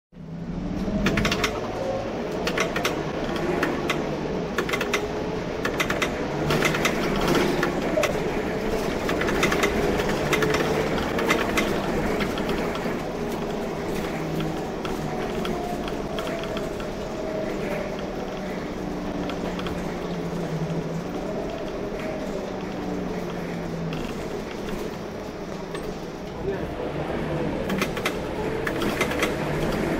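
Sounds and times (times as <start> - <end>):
bus diesel engine under load: 0.1 - 29.9.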